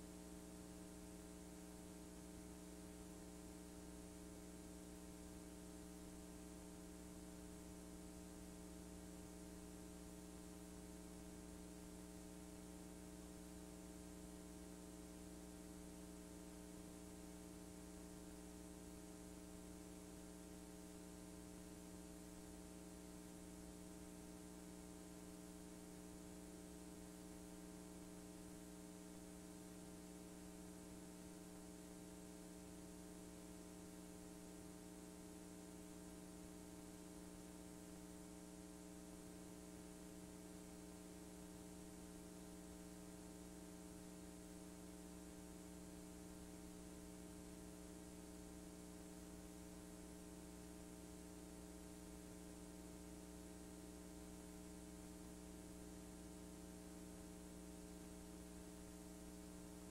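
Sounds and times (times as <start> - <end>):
faint electrical hum with hiss: 0.0 - 59.9.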